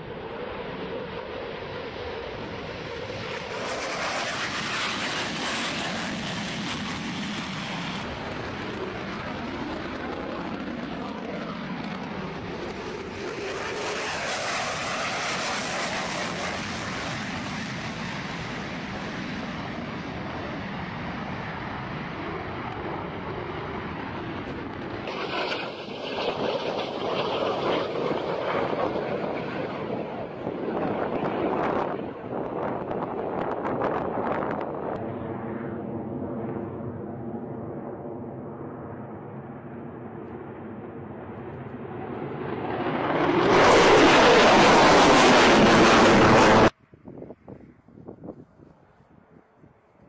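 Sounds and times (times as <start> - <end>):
fighter jets roaring past: 0.0 - 46.8.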